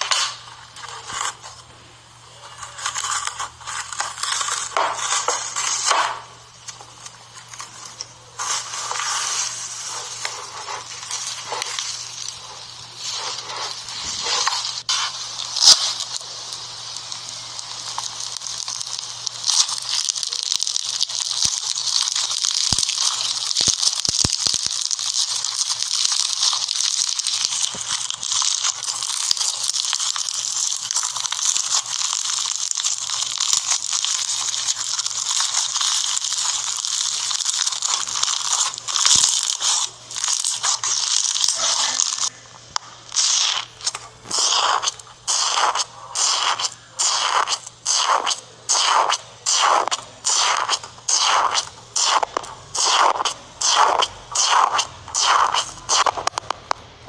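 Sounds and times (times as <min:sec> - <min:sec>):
slime crackling and popping: 0:00.0 - 0:57.0
slime squishes: 0:00.0 - 0:57.0.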